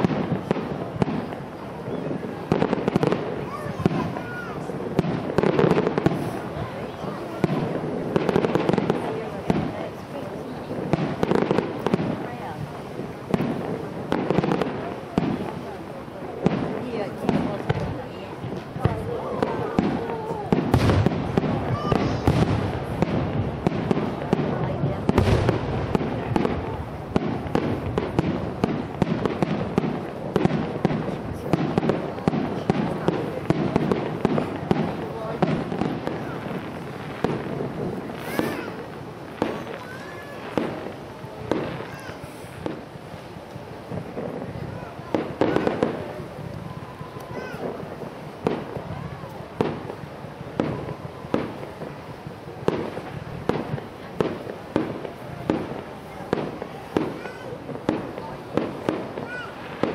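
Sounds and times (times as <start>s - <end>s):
fireworks exploding: 0.0s - 59.9s.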